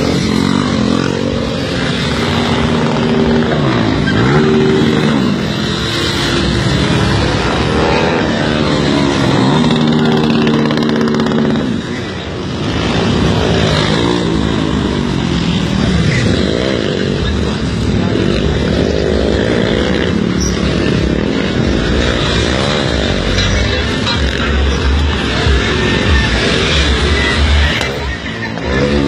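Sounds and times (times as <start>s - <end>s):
vehicle engine revving: 0.0s - 29.0s.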